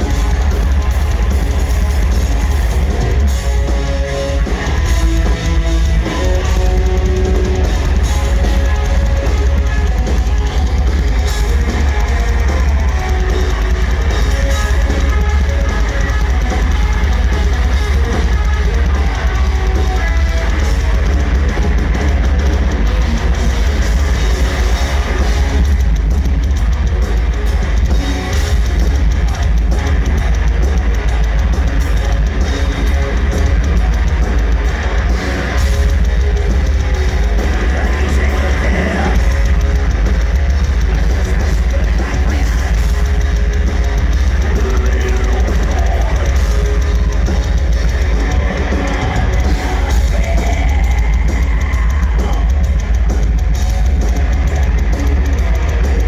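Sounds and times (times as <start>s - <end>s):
distorted electric guitars: 0.0s - 56.0s
drum kit: 0.0s - 56.0s
heavy bass: 0.0s - 56.0s.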